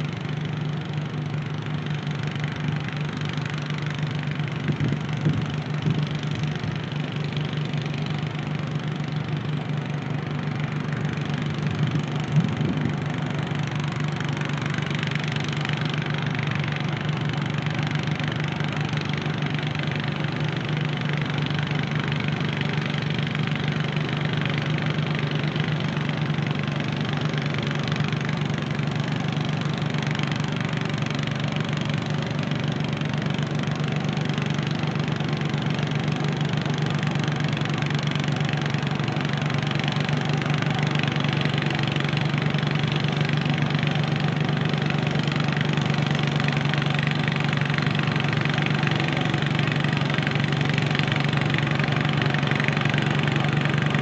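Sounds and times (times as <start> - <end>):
tractor engine idling: 0.0 - 54.0.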